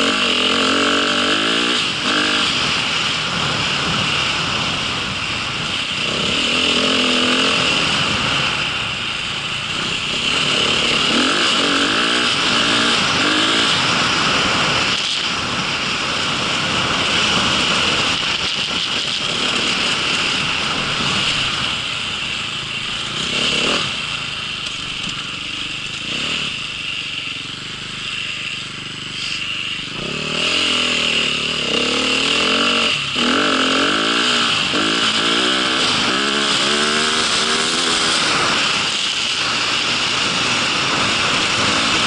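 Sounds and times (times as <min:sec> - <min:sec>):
vehicle engine revving: 0:00.0 - 0:42.0.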